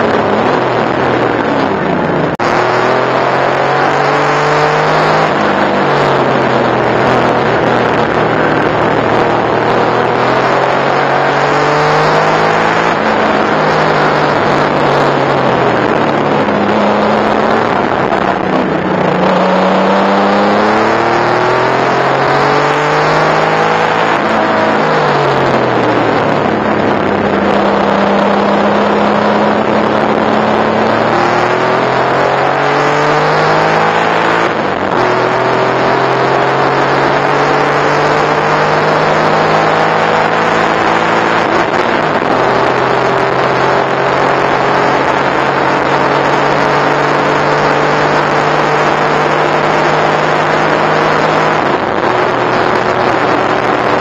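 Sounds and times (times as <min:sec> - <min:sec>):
car engine revving: 0:00.0 - 0:54.0
wind and road noise: 0:00.0 - 0:54.0.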